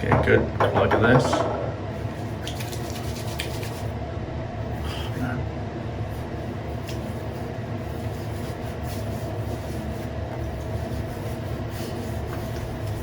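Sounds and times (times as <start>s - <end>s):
faint constant hum: 0.0s - 13.0s.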